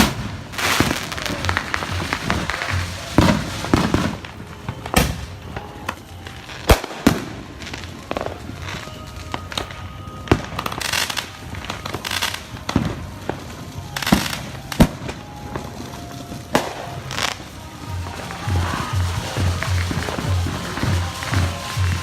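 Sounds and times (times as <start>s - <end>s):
fireworks crackling bursts: 0.0s - 22.0s
fireworks sharp bangs: 0.0s - 22.0s.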